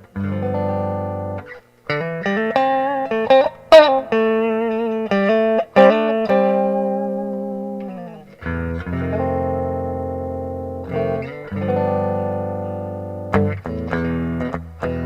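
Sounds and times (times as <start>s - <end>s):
clean electric guitar notes: 0.0s - 15.0s.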